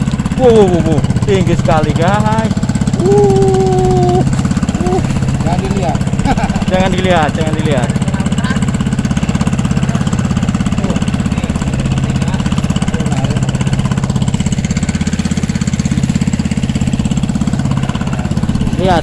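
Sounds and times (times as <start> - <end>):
small boat engine puttering: 0.0 - 19.0.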